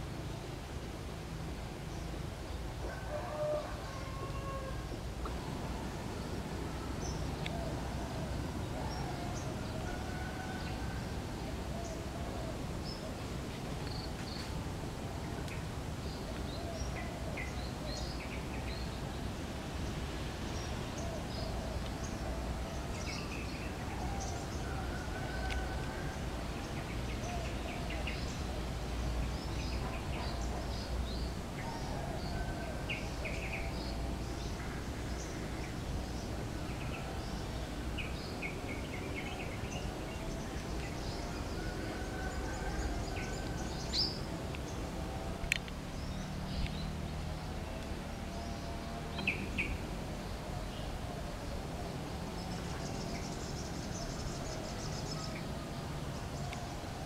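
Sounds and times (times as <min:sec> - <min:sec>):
low wavering bird calls: 0:02.8 - 0:19.1, 0:20.5 - 0:57.0.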